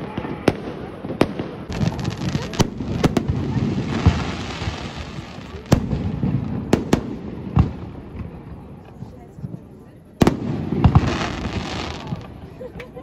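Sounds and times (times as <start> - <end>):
firework crackling: 0.0 - 13.0.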